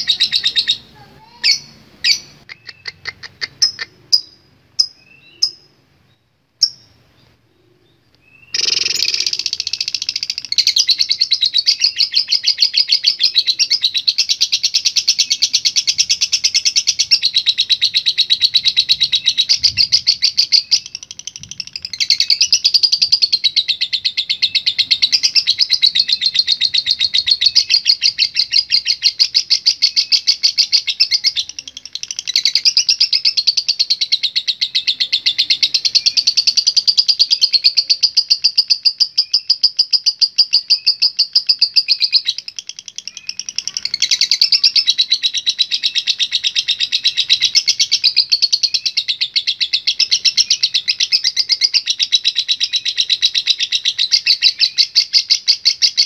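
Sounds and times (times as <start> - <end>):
lovebird high-pitched trilling: 0.0 - 5.8, 6.6 - 7.0, 8.2 - 56.0.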